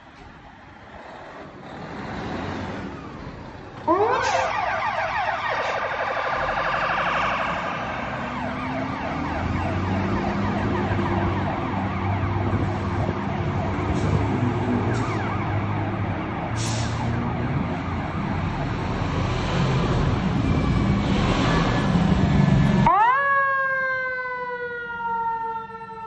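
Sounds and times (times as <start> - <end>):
fire engine siren yelping: 2.9 - 26.0.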